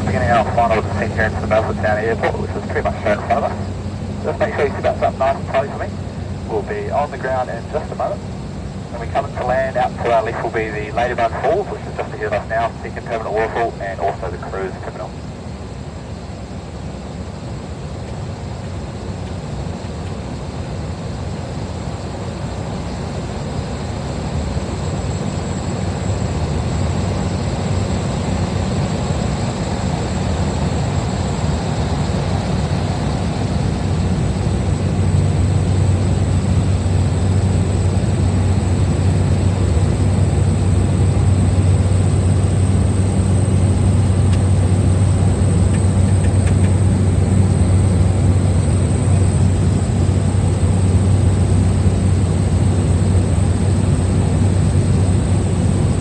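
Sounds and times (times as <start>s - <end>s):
small plane engine droning: 0.0s - 56.0s.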